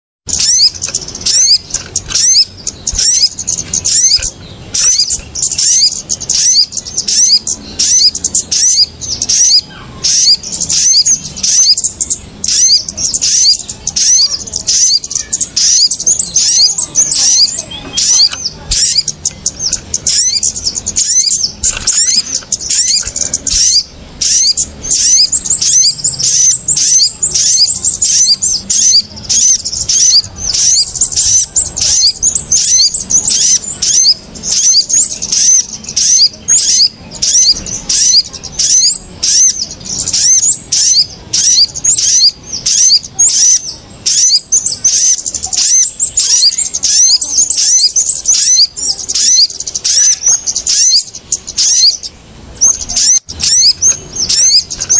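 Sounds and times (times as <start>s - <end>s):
small birds chirping: 0.2s - 54.9s.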